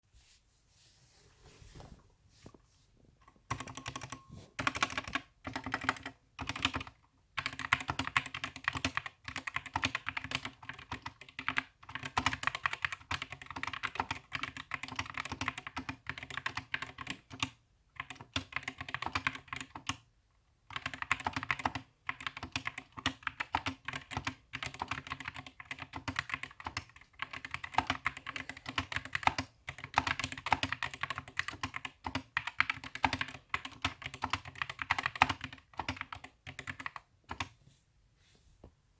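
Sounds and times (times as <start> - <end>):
mechanical keyboard typing: 3.5 - 20.1, 20.7 - 37.5.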